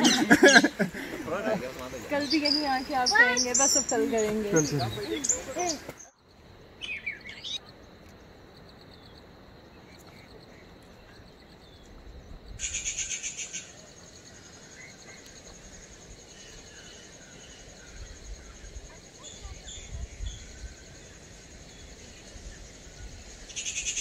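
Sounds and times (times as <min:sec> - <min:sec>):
insects trilling: 0:00.0 - 0:24.0
bird chirp: 0:01.7 - 0:06.2, 0:06.8 - 0:07.9, 0:08.8 - 0:24.0.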